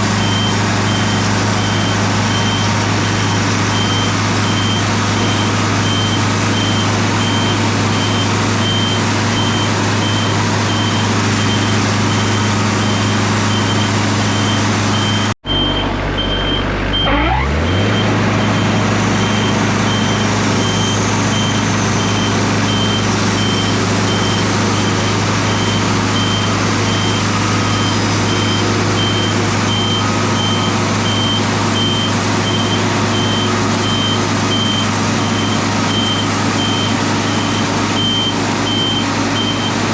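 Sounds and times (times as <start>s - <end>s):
sawmill engine humming: 0.0s - 39.9s
high pulsing beep: 3.7s - 39.8s.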